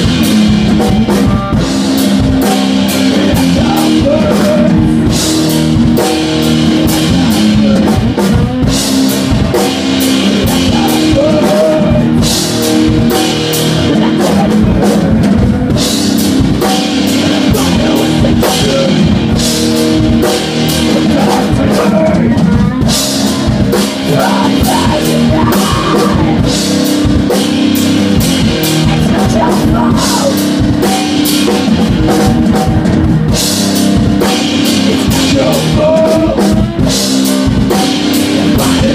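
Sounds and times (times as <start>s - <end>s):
person singing into microphone: 0.0s - 5.2s, 6.0s - 19.5s, 20.2s - 26.7s, 28.2s - 31.2s, 34.4s - 37.0s, 37.7s - 38.9s
electric guitar: 0.0s - 38.9s
rock band playing live: 0.0s - 38.9s.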